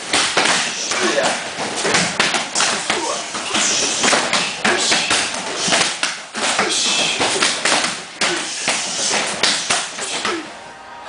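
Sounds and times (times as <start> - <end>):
punches and kicks hitting pads: 0.0 - 10.5.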